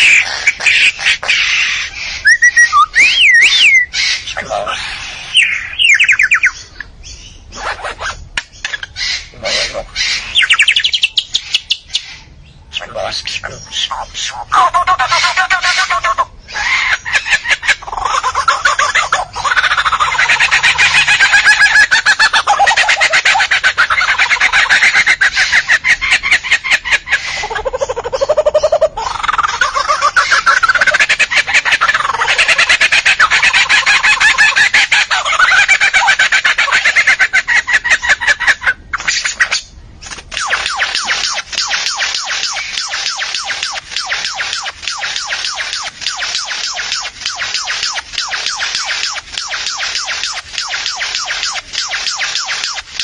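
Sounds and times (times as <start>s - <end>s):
chickens calling: 0.0s - 53.0s.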